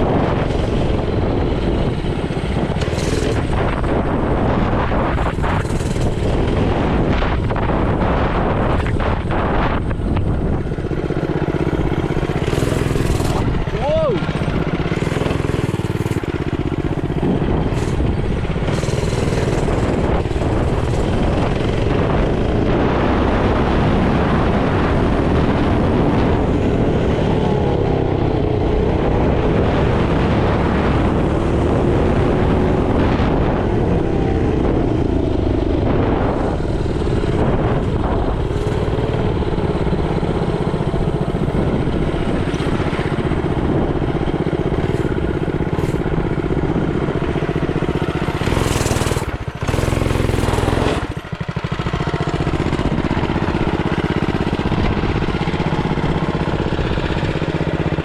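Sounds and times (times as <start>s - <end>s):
mini bike engine running: 0.0s - 58.0s
wind noise on microphone: 0.0s - 58.0s.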